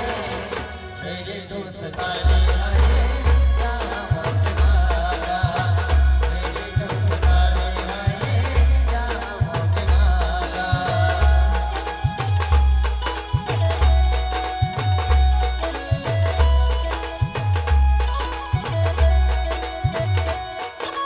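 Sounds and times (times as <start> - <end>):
sustained melody line: 0.0 - 21.0.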